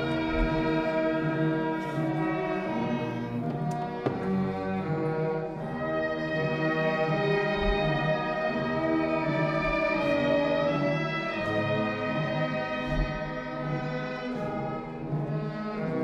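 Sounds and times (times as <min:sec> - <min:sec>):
orchestral strings sustained chords: 0:00.0 - 0:16.0.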